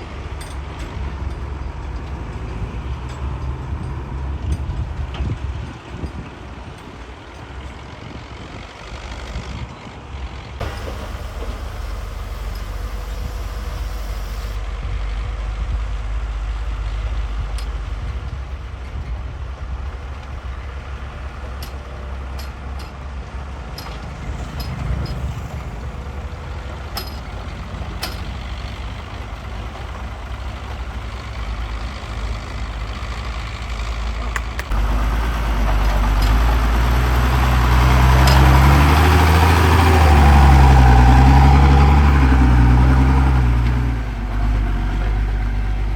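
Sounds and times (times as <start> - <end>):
diesel machinery rumbling: 0.0 - 45.9.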